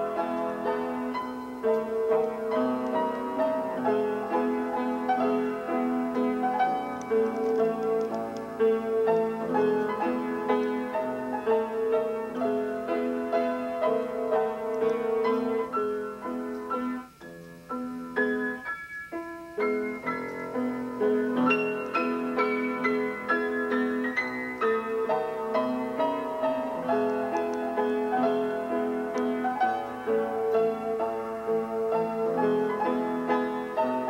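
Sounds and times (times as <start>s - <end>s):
grand piano tune: 0.0s - 34.0s.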